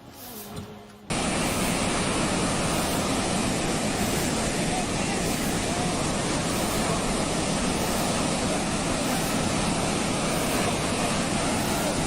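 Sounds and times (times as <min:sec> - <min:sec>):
rushing water: 0:01.1 - 0:12.0.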